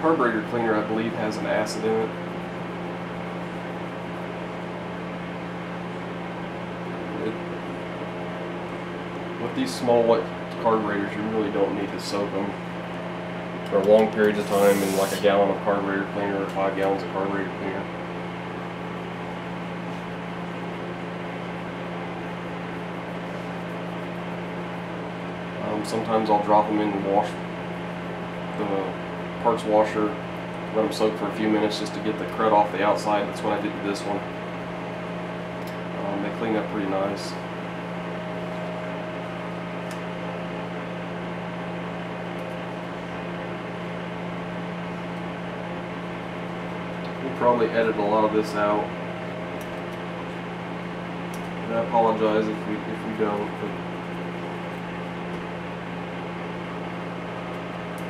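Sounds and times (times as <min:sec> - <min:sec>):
fan humming and whirring: 0:00.0 - 0:58.0.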